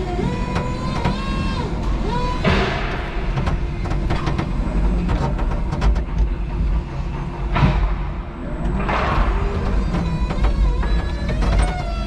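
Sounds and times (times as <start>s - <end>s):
forklift truck driving: 0.0s - 12.0s.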